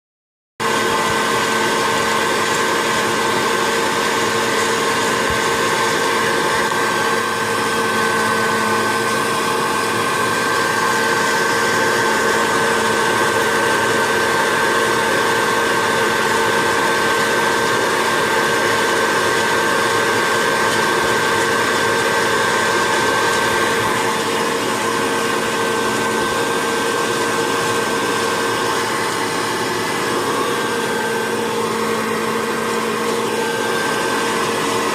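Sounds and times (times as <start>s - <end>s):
small fan motor whining: 0.6s - 34.9s.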